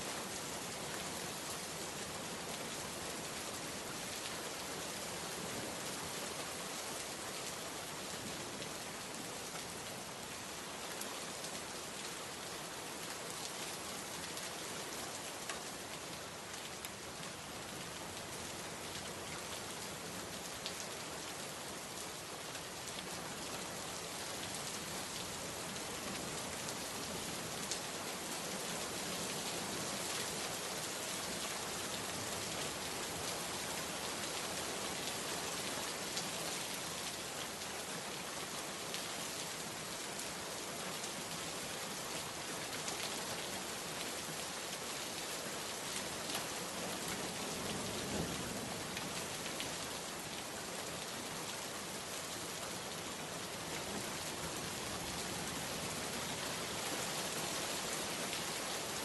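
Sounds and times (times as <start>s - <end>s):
heavy rain falling: 7.8s - 59.0s.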